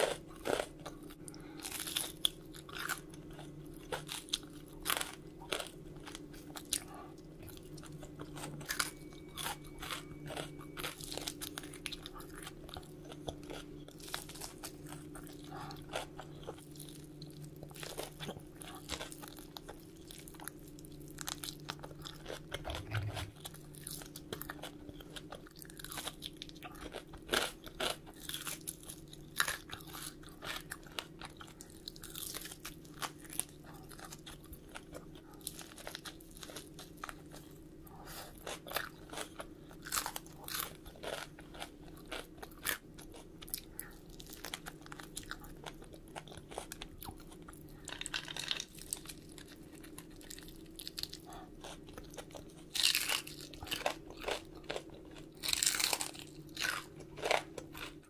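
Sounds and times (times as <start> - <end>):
crunchy food chewing: 0.0 - 58.0.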